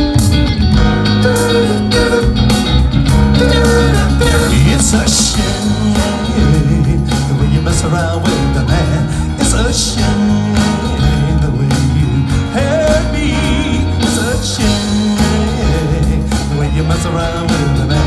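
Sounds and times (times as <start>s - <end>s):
live rock band playing: 0.0s - 18.0s
person singing: 3.3s - 18.0s.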